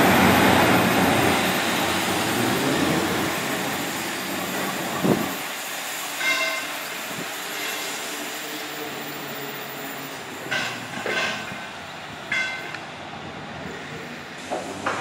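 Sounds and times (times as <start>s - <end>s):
train engines running: 0.0s - 15.0s.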